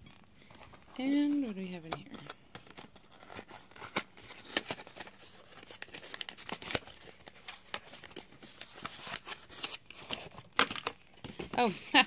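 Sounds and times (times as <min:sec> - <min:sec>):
packaging crinkling and rustling: 0:00.5 - 0:12.0.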